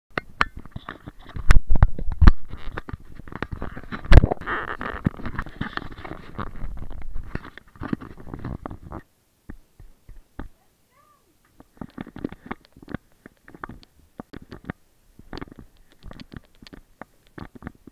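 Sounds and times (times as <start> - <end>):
hands rubbing on camera housing: 0.6 - 9.0, 11.6 - 17.9.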